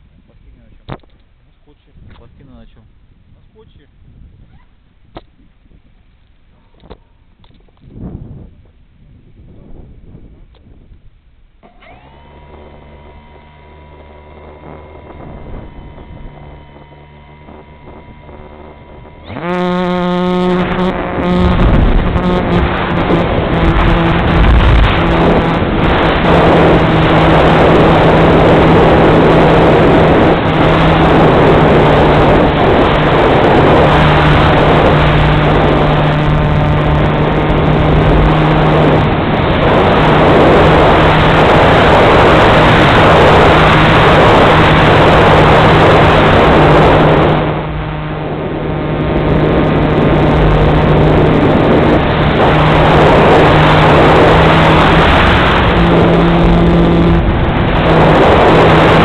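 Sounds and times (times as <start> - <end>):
wind rush: 1.9 - 11.3, 14.5 - 59.0
model plane propeller drone: 6.0 - 59.0.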